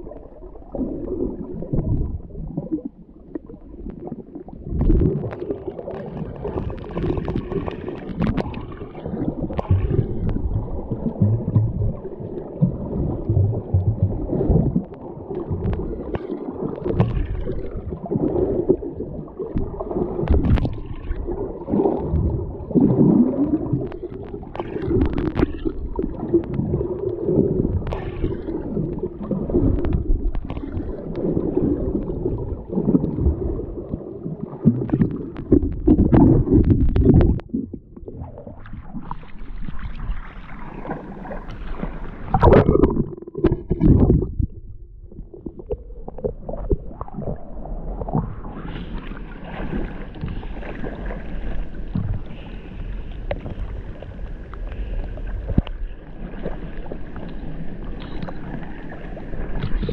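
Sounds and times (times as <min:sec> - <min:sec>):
muffled water sloshing and gurgling: 0:00.0 - 0:59.9.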